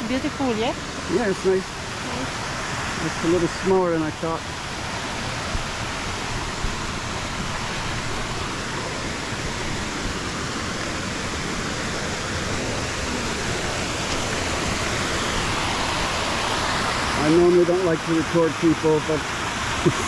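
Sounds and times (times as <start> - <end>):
small waterfall over rocks: 0.0 - 20.0.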